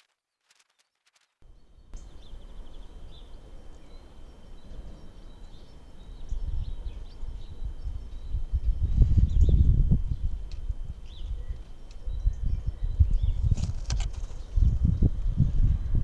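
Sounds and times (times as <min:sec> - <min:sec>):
faint bird chirps: 0:01.5 - 0:14.6
wind rumble on microphone: 0:01.5 - 0:16.0.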